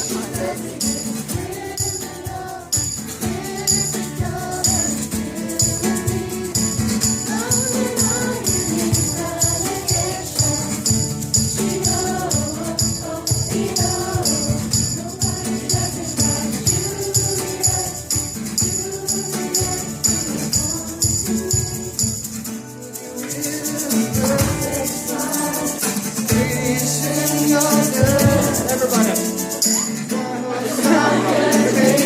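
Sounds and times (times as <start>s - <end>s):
pop-rock band playing: 0.0s - 32.0s
shaker rhythm: 0.0s - 32.0s.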